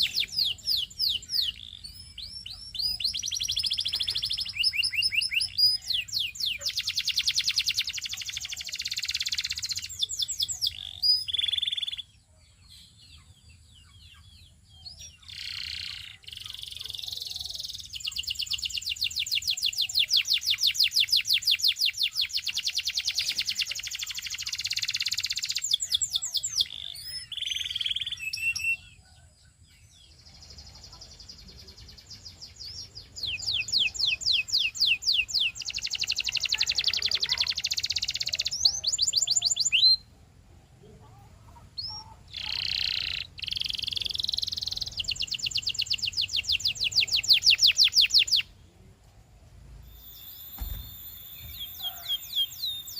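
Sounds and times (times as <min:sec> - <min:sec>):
canary singing rolling trills: 0:00.0 - 0:52.9.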